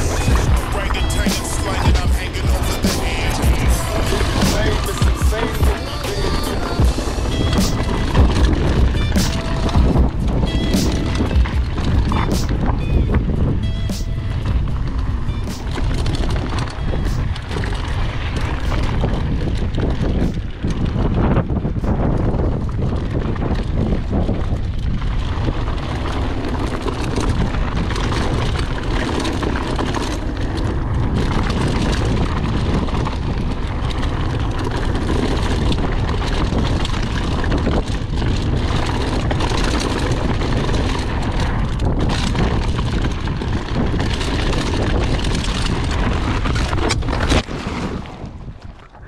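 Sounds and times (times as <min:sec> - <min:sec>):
bike tyres crunching on gravel: 0:00.0 - 0:49.0
wind buffeting microphone: 0:00.0 - 0:49.0.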